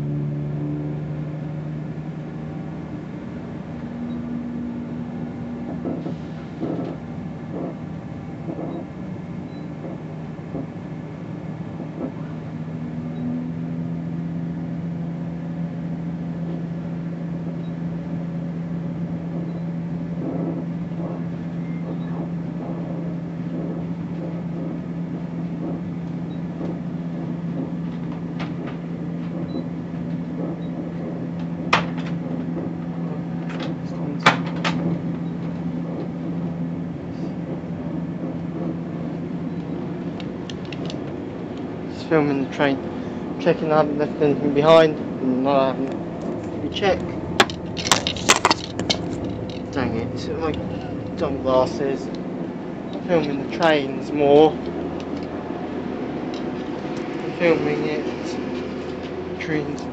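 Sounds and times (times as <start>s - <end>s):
train diesel engine drone: 0.0s - 59.9s.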